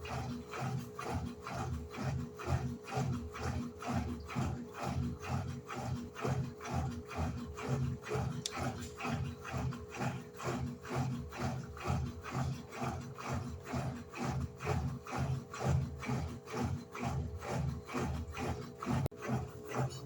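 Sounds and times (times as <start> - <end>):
washing machine hum: 0.0 - 20.0
washing machine water swishing: 0.0 - 20.0.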